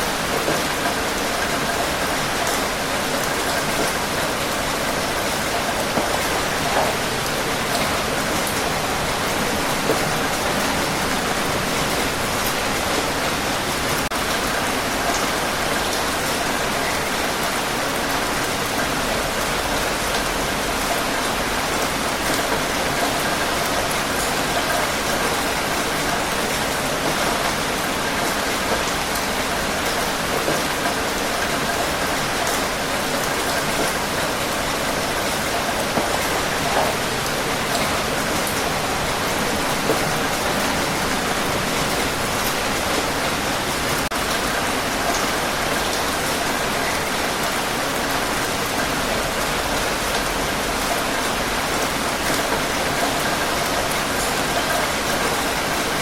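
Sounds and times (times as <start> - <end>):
raindrops pattering: 0.0 - 56.0
steady rain falling: 0.0 - 56.0.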